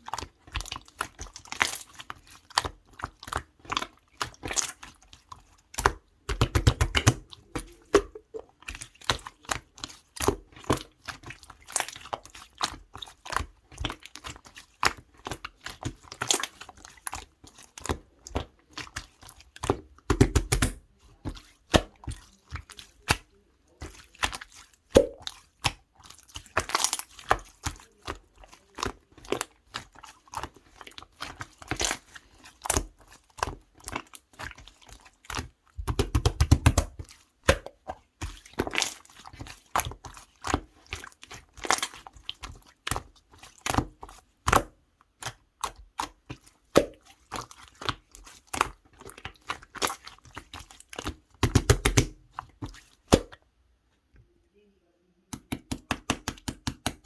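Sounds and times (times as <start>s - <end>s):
slime squishing with sticky pops: 0.0s - 53.4s, 55.3s - 57.0s.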